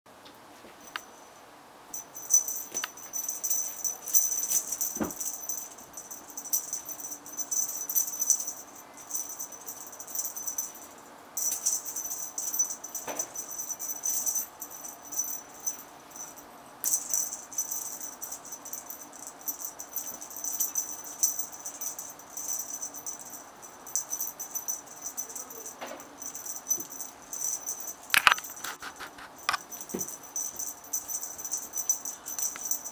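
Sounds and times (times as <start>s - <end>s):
cat toy bells jingling: 1.9s - 32.9s.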